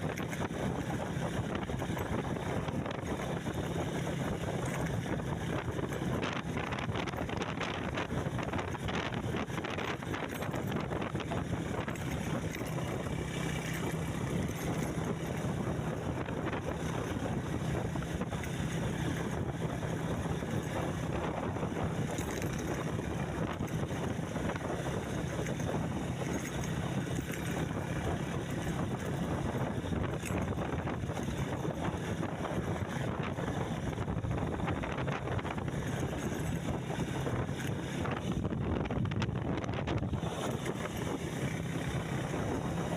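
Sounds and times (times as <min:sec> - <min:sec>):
vehicle engine humming: 0:00.0 - 0:42.9
wind buffeting microphone: 0:00.0 - 0:42.9.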